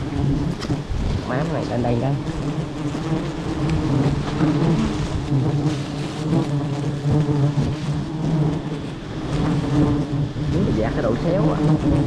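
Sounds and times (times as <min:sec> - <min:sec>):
honeybees buzzing loudly: 0:00.0 - 0:12.0.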